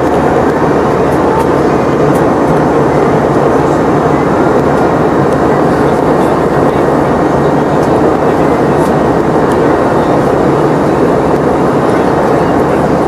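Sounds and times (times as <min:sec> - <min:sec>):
jet engines droning inside cabin: 0:00.0 - 0:13.0.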